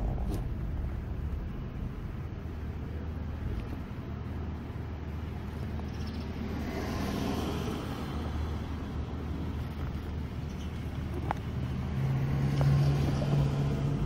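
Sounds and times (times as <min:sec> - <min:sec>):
car engine and road hum: 0:00.0 - 0:14.0.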